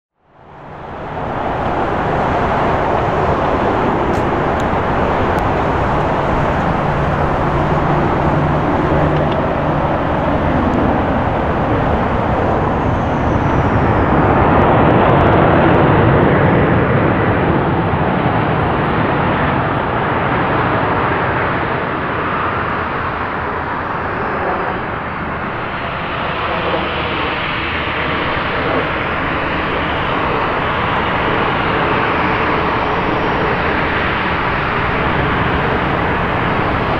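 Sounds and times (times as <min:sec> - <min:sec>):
jet engines running: 0:00.2 - 0:36.9.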